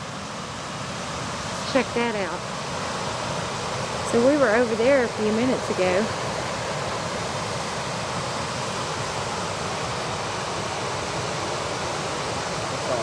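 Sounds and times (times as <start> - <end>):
water roaring over spillway: 0.0 - 13.0.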